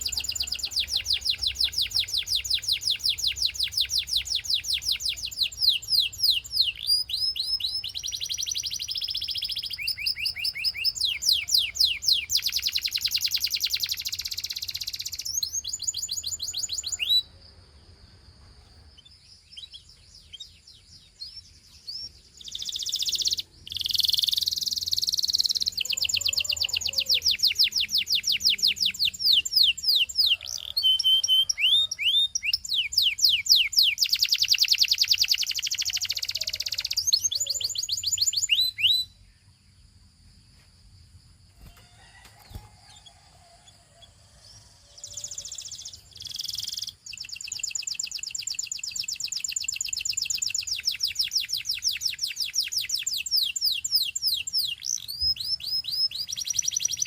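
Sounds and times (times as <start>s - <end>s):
canary singing trills: 0.0s - 17.7s, 18.6s - 40.0s, 41.6s - 57.0s.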